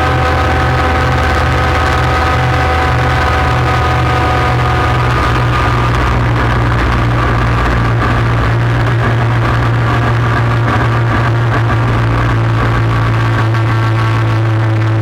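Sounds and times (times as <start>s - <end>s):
atv engine humming: 0.0s - 15.0s.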